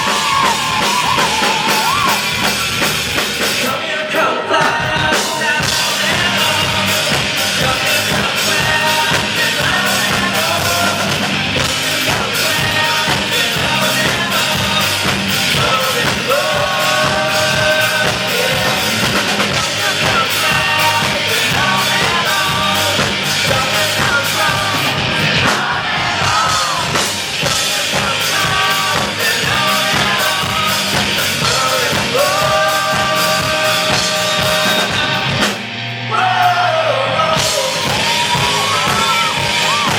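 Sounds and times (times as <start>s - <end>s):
live rock band: 0.0s - 39.9s
person singing: 3.4s - 39.9s.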